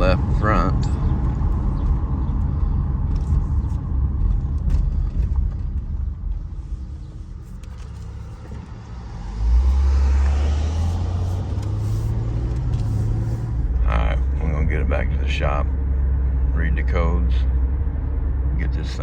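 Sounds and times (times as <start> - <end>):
car engine and road rumble: 0.0 - 19.0
loud low drone: 0.0 - 19.0.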